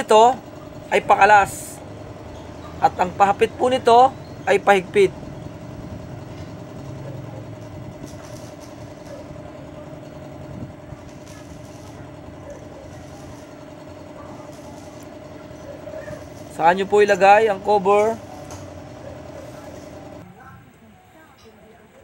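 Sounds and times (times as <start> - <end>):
engine humming: 0.0 - 20.8.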